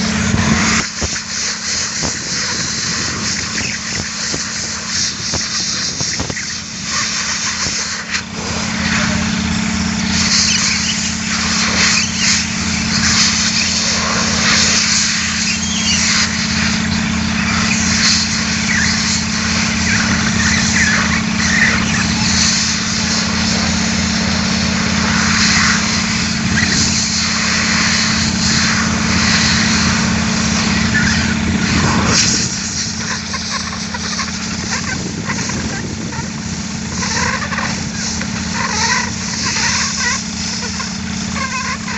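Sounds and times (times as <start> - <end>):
compressed air hissing: 0.0 - 41.9
heavy machine engine hum: 0.0 - 41.9.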